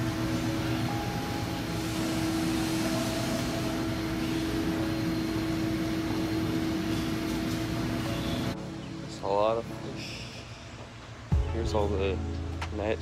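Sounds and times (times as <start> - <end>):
aquarium pumps humming: 0.0 - 12.6.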